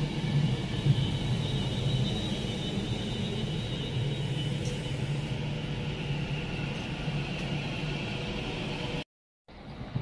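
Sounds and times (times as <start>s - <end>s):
passenger train running past: 0.0s - 10.0s.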